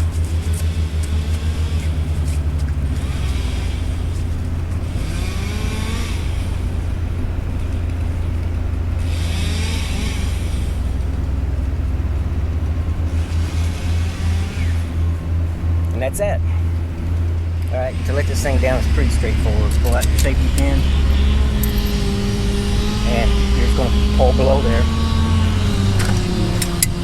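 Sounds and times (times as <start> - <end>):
machinery engine revving: 0.0 - 27.0.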